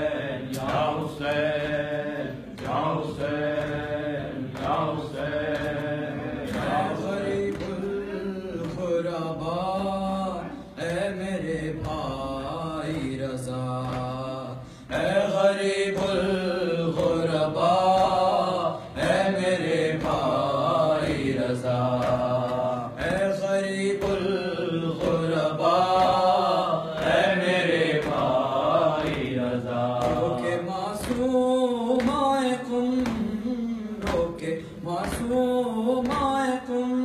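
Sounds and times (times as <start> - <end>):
man chanting a lament: 0.0 - 37.0.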